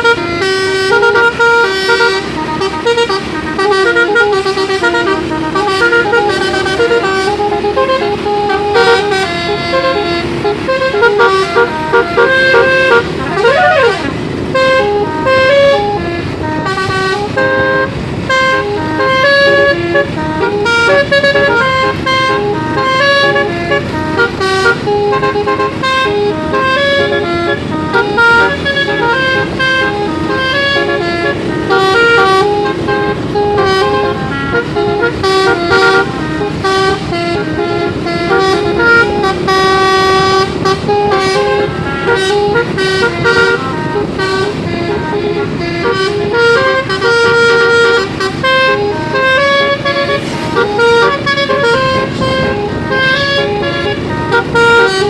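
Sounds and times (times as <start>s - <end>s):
bus horns playing a tune: 0.0s - 55.0s.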